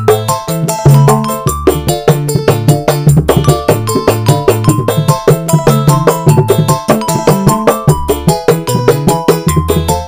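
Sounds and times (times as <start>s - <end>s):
keyboard backing: 0.0s - 10.0s
deep bass tones: 0.6s - 10.0s.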